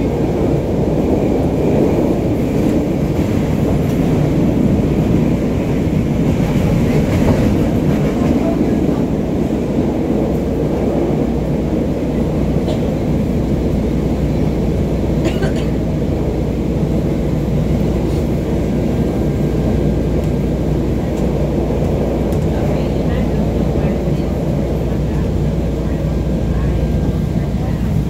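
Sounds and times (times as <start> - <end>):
clickety-clack of rails: 0.0 - 28.0
train wheels rumbling on rails: 0.0 - 28.0.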